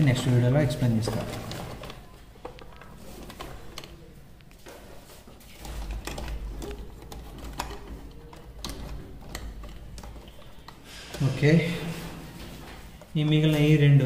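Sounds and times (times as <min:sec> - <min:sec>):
hands handling wires and breakers: 0:00.0 - 0:14.0.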